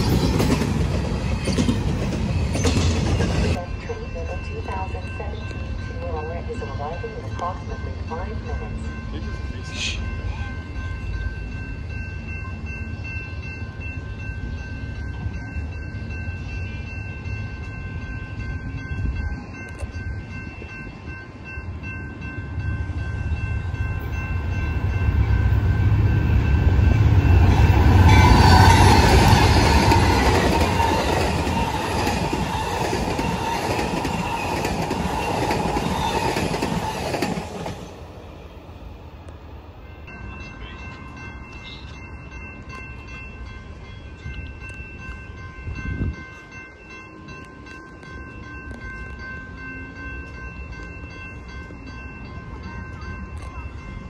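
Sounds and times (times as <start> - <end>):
crossing signal bell ringing: 0.0 - 37.9, 39.7 - 54.0
train passing on rails: 0.0 - 54.0.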